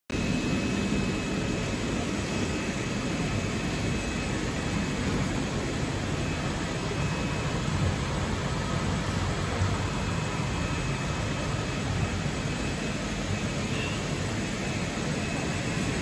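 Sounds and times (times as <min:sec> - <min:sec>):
faint high whine: 0:00.1 - 0:16.0
steady machinery noise: 0:00.1 - 0:16.0.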